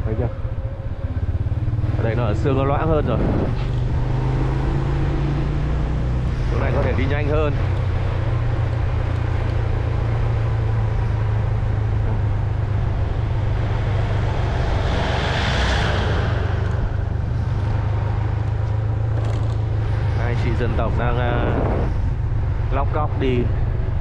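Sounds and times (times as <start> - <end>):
motorbike engine and wind: 0.0 - 24.0
truck passing: 0.0 - 24.0.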